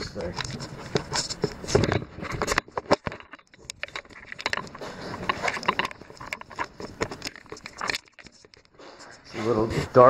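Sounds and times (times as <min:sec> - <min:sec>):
camera handling noise: 0:00.3 - 0:08.7.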